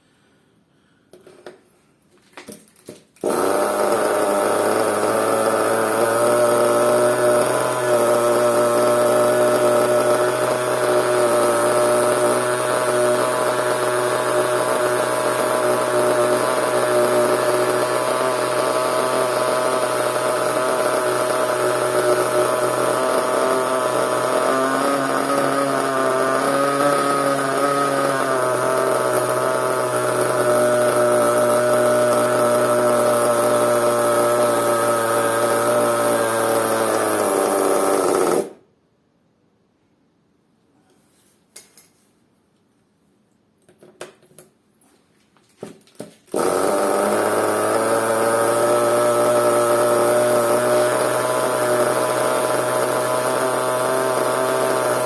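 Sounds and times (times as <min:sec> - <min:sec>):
small engine idling: 0:03.2 - 0:38.6, 0:46.3 - 0:55.0.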